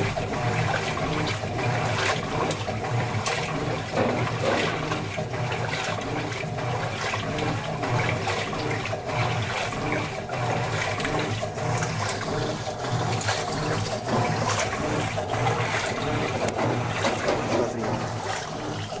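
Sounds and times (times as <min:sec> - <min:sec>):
washing machine motor humming: 0:00.0 - 0:19.0
water sloshing in washing machine: 0:00.0 - 0:19.0.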